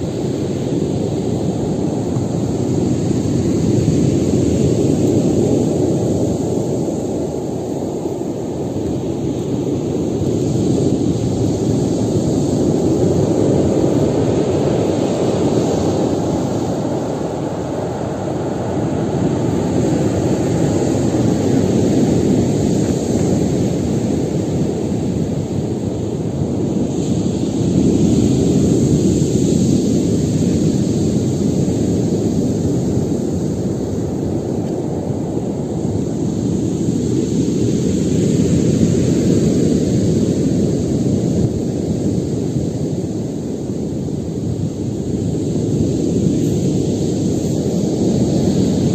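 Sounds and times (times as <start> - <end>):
heavy waves breaking: 0.0 - 48.9
hissing wash of spray: 0.0 - 48.9.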